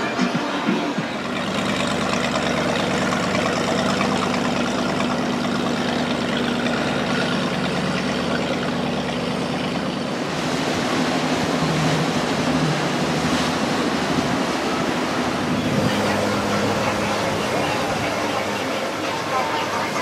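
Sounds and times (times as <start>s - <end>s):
speedboat engine humming: 0.0s - 20.0s.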